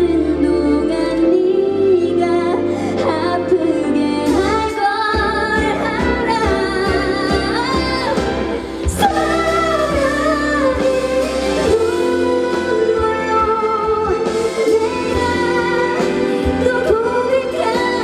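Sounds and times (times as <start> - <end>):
woman singing pop ballad: 0.0 - 18.0
band accompaniment: 3.2 - 18.0.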